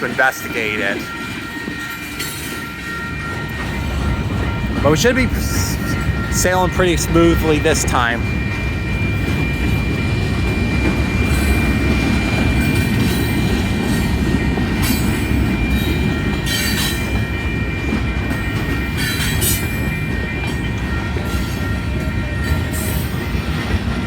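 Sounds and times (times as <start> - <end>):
freight train rumbling past: 0.0 - 24.0
high wheel squeal: 0.1 - 23.8.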